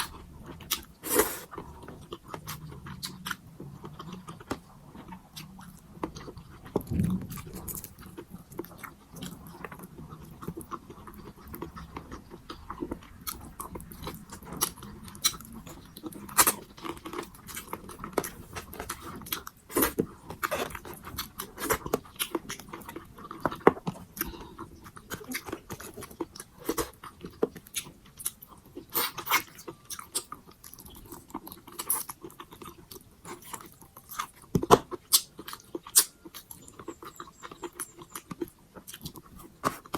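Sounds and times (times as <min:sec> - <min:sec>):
mouth smacks and crunches: 0:00.0 - 0:39.9
person chewing food: 0:00.0 - 0:39.9.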